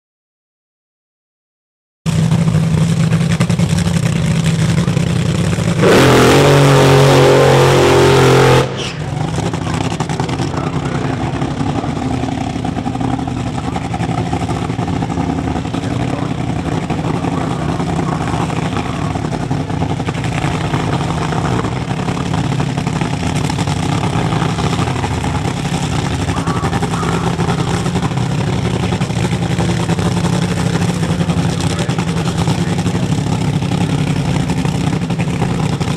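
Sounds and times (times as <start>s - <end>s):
drag racing car engine revving: 2.1s - 35.9s.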